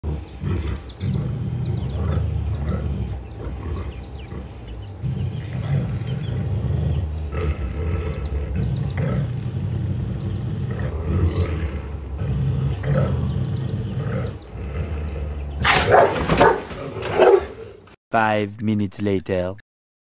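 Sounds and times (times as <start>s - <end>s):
dogs growling deeply: 0.0s - 18.0s.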